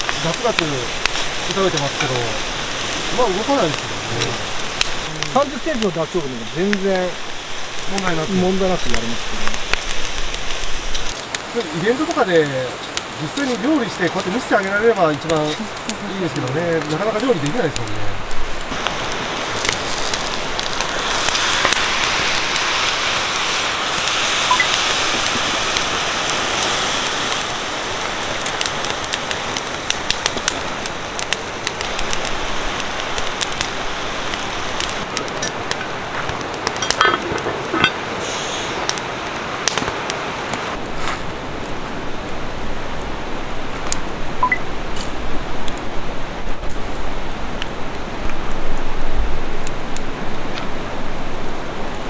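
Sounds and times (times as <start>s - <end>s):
wood fire hissing and crackling: 0.0s - 52.0s.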